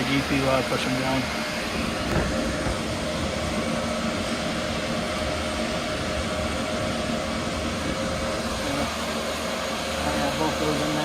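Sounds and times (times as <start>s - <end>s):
cooling fans whooshing: 0.0s - 11.0s
faint steady hums: 0.0s - 11.0s.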